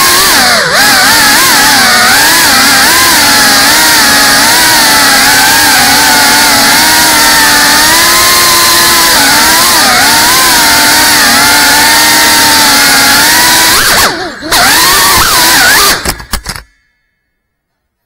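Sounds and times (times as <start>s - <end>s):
drone motors whining: 0.0s - 16.6s.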